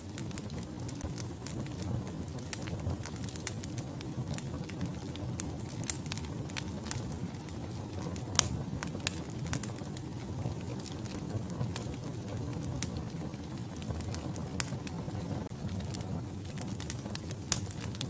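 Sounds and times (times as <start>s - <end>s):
fire rumbling: 0.0s - 18.0s
wood crackling and popping: 0.0s - 18.0s.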